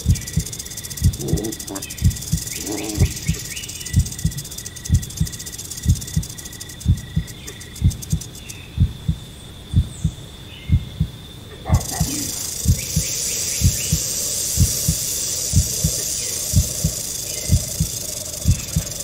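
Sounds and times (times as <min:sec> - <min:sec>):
rattlesnake rattle buzzing: 0:00.0 - 0:08.7, 0:11.7 - 0:19.0
heartbeat thumping: 0:00.0 - 0:19.0.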